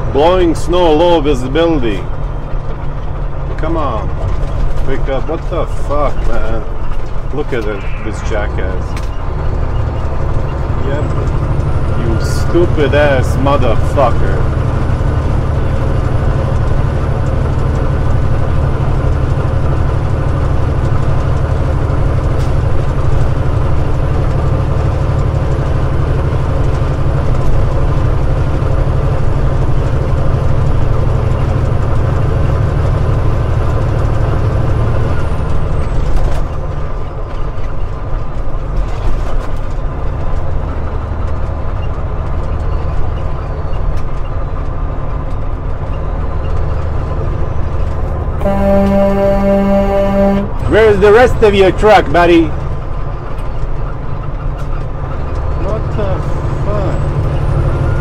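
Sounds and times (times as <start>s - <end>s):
road noise: 0.0s - 58.0s
truck diesel engine droning: 0.0s - 58.0s.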